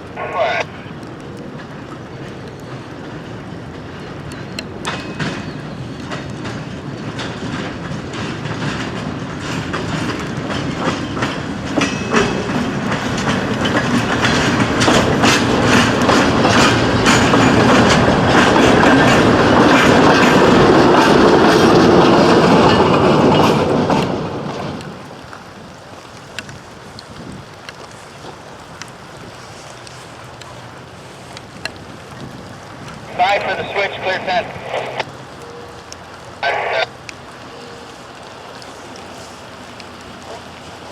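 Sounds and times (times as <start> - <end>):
freight train rolling past: 0.0 - 27.0, 28.4 - 40.9
wheels clicking over rail joints: 1.0 - 33.1, 35.0 - 40.9.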